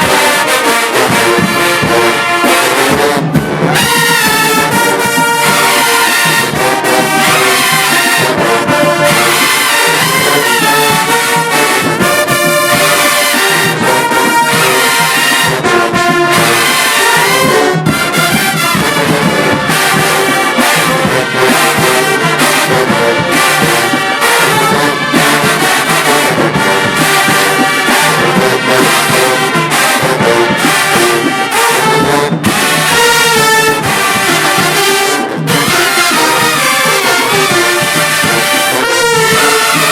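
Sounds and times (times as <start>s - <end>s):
drum strokes: 0.0s - 39.9s
trombones and trumpets: 0.0s - 39.9s.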